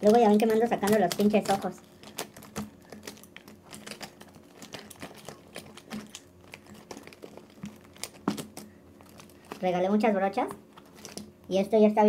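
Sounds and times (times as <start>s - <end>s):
makeup brushes clattering: 0.0s - 9.8s.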